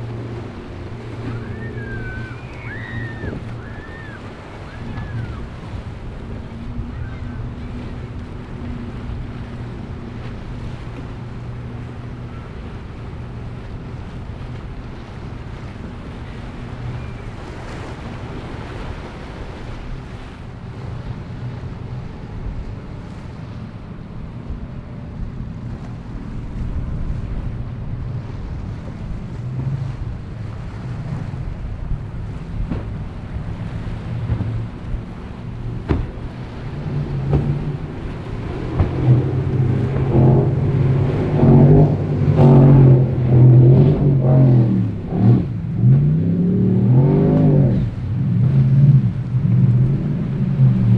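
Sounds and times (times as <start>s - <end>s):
hull slamming waves: 0.0s - 50.9s
powerboat engines droning: 0.0s - 50.9s
splashing waves: 0.0s - 50.9s
wind on microphone: 0.0s - 50.9s.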